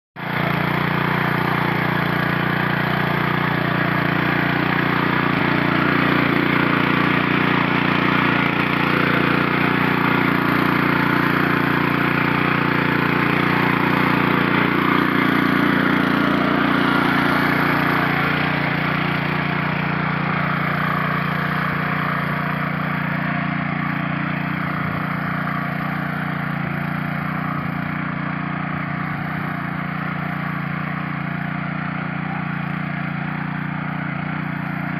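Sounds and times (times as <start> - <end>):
petrol engine running: 0.2 - 34.9.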